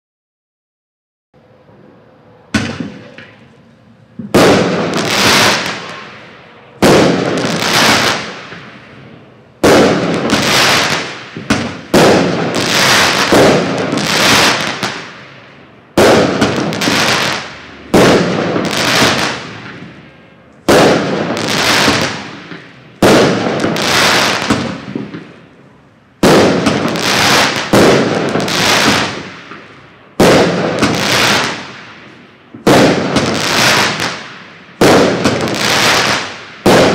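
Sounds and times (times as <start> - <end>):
fireworks bangs: 2.5 - 36.9.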